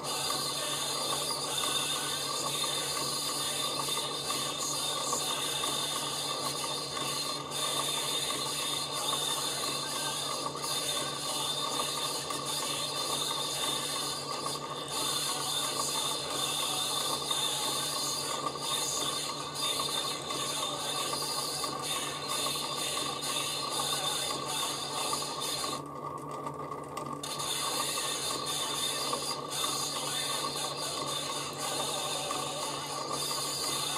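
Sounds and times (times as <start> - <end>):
stepper motor whine: 0.0 - 33.9.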